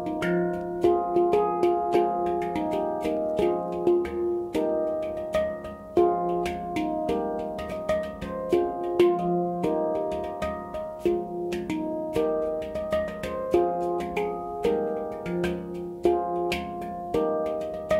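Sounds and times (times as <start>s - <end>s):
handpan ringing notes: 0.0s - 17.9s.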